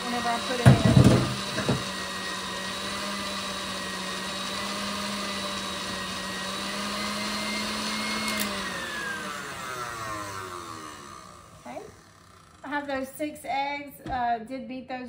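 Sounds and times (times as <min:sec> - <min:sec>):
electric mixer running: 0:00.0 - 0:13.1.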